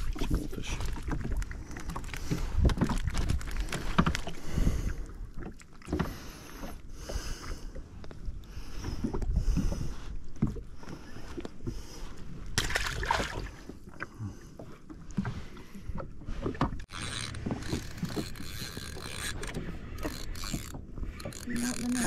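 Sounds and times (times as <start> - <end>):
water lapping: 0.0 - 22.0.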